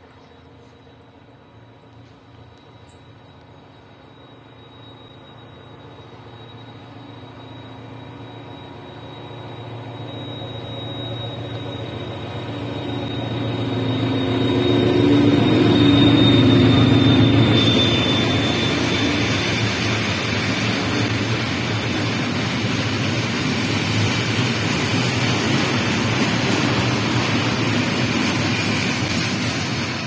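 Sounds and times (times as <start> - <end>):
diesel locomotive engine: 0.0 - 30.0.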